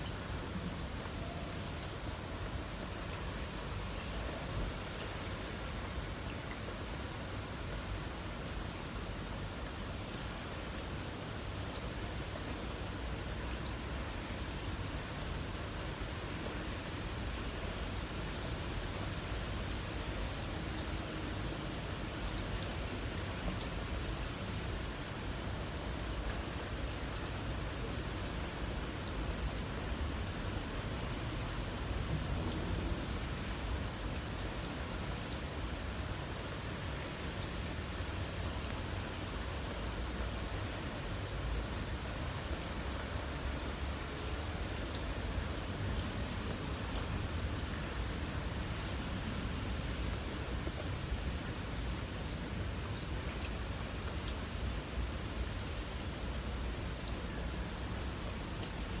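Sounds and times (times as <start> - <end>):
light rain hissing: 0.0 - 59.0.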